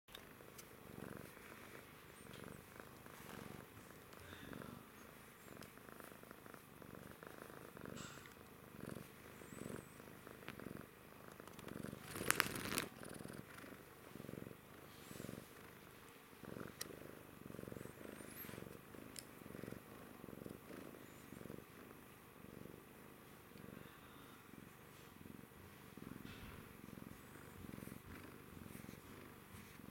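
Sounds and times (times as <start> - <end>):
cat purring: 0.1 - 29.9.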